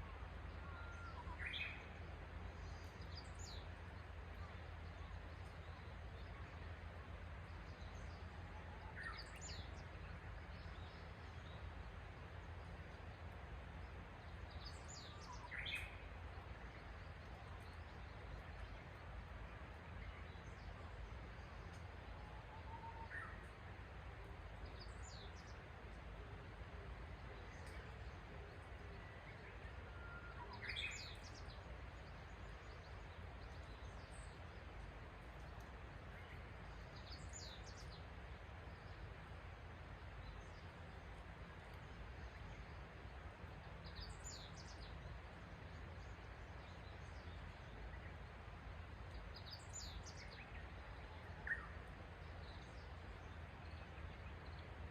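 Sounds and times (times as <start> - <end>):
wild birds chirping: 7.3 - 54.9.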